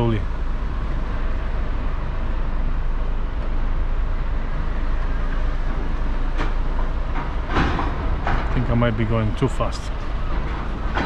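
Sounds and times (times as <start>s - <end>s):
truck engine rumble: 0.0s - 11.0s.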